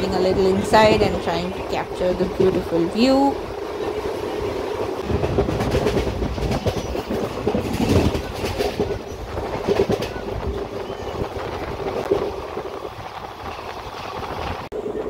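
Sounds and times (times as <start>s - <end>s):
wheels clacking over rail joints: 0.0s - 14.7s
train wheels rumbling on rails: 0.0s - 15.0s.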